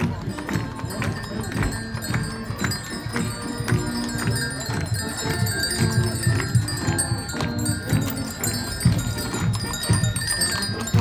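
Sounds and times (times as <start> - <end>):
hooves clopping on asphalt: 0.0 - 11.0
harness bells jingling: 0.1 - 11.0.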